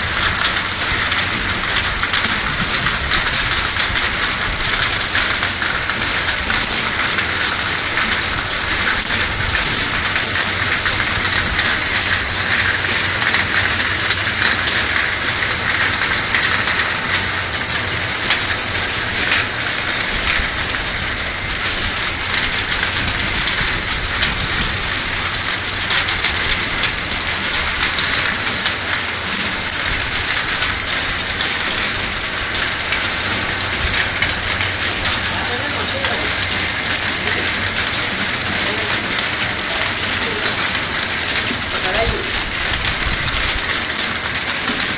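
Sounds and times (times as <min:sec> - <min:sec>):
washing machine hissing: 0:00.0 - 0:44.9.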